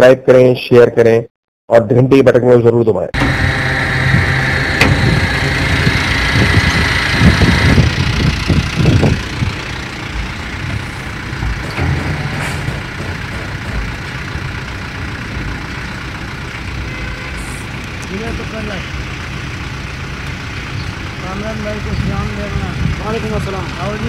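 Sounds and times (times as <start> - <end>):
vehicle engine idling: 3.2 - 24.0.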